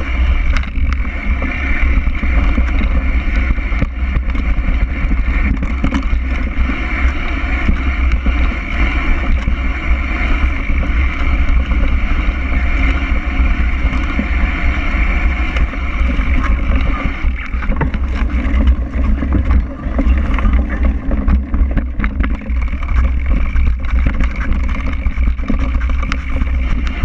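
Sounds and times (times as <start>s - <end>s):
bike rolling over bumpy trail: 0.0s - 27.0s
wind on microphone: 0.0s - 27.0s.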